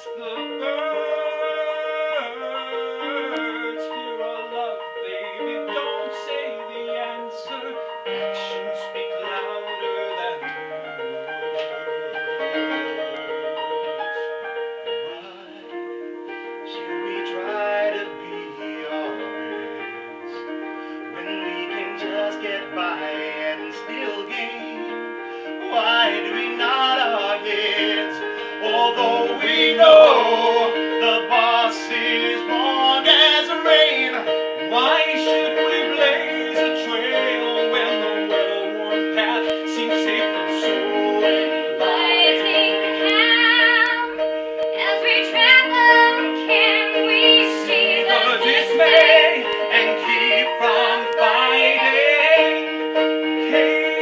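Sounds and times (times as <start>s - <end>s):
man singing: 0.0s - 10.6s, 15.0s - 15.8s, 16.7s - 20.4s, 21.1s - 43.2s, 46.5s - 54.0s.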